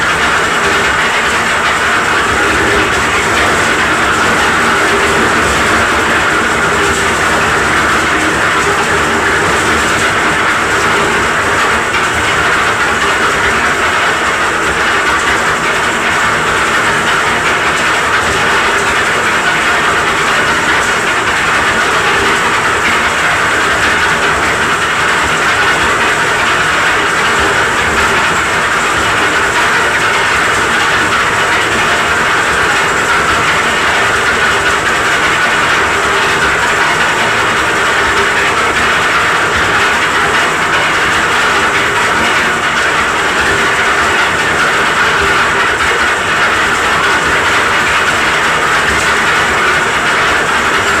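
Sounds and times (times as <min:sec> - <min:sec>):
cement mixer engine clatter: 0:00.0 - 0:51.0.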